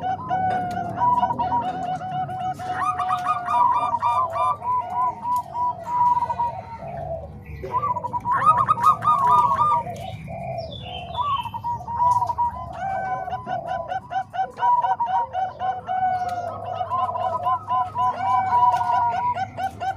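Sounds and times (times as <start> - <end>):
doves cooing: 0.0 - 19.9.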